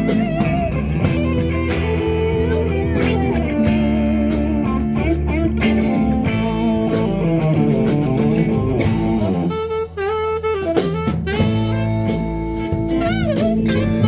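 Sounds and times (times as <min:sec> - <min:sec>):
blues band playing: 0:00.0 - 0:14.0
guitar leading: 0:00.0 - 0:14.0.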